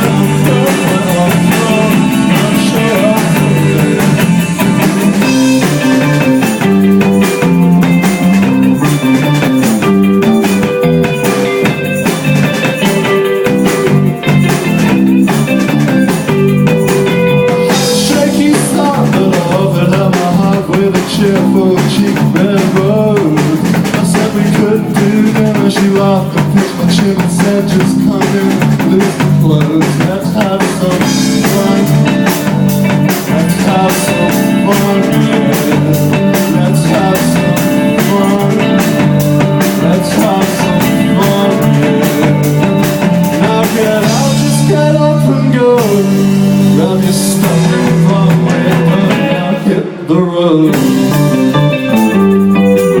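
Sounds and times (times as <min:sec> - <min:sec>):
band playing live: 0:00.0 - 0:53.0.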